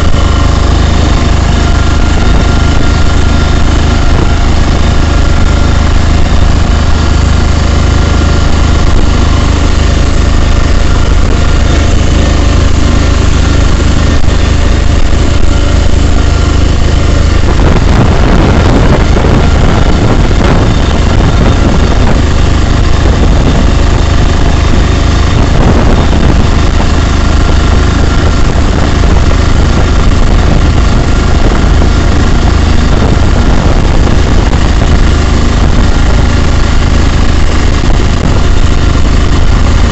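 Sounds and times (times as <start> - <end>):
rough rushing noise: 0.0 - 39.9
vehicle engine humming: 0.0 - 39.9.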